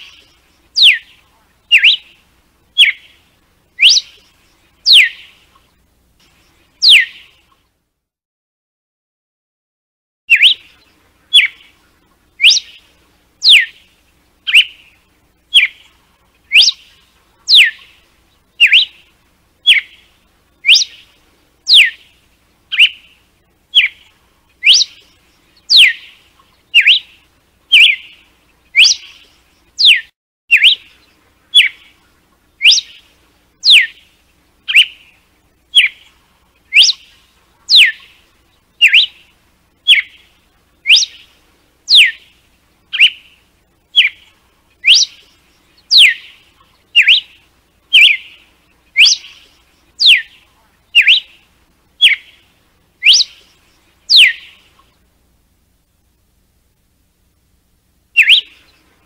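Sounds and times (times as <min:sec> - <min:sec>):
bird whistling song: 0:00.0 - 0:07.5, 0:10.3 - 0:55.0, 0:58.1 - 0:58.9.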